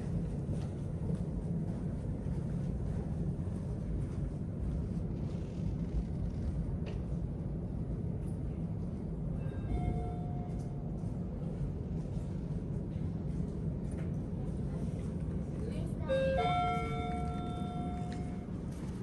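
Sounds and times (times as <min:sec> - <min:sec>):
elevator machinery hum: 0:00.0 - 0:19.0.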